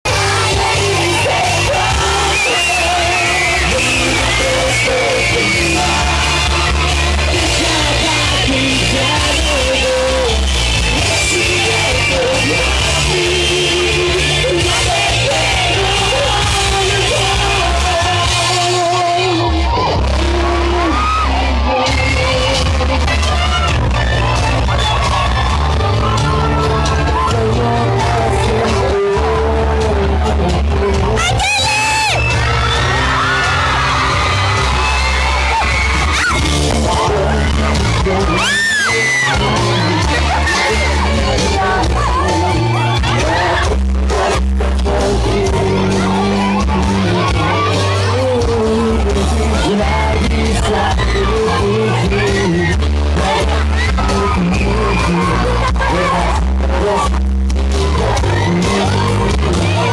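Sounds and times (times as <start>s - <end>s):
crowd shouting and singing along: 0.0s - 59.9s
electronic dance music: 0.0s - 59.9s.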